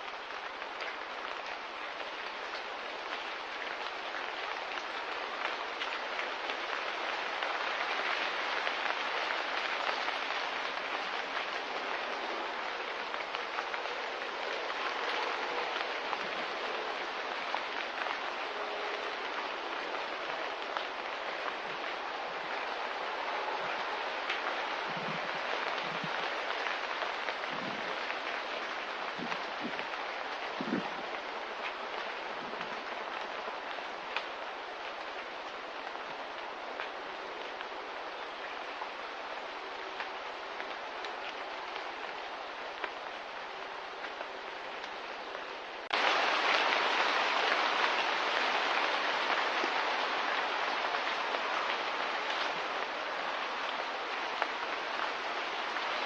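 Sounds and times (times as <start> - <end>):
rain-like hiss: 0.0 - 56.0.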